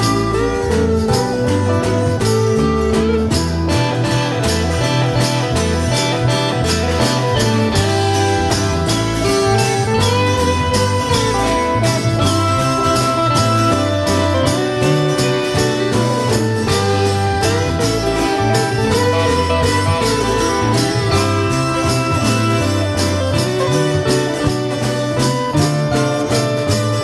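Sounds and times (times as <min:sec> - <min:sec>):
percussion steady beat: 0:00.0 - 0:27.0
tubas playing bass line: 0:00.0 - 0:27.0.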